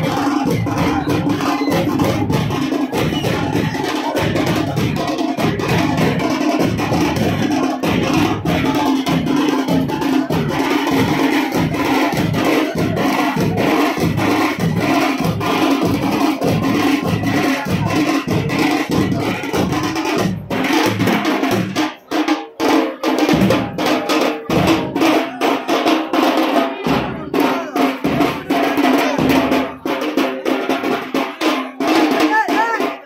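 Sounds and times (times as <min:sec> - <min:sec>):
frame drums beaten with sticks: 0:00.0 - 0:33.0.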